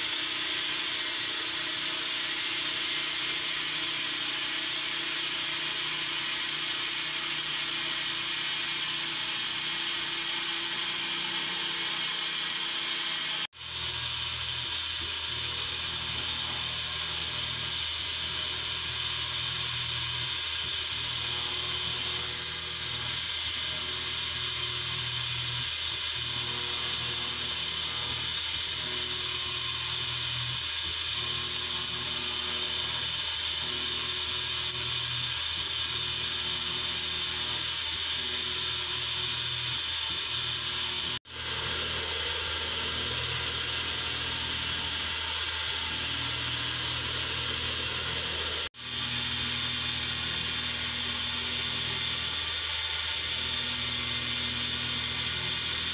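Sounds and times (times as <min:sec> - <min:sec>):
milling machine cutting metal: 0:00.0 - 0:55.9.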